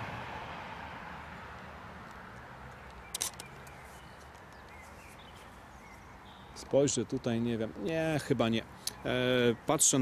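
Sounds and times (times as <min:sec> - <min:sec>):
faint steady background noise: 0:00.0 - 0:10.0.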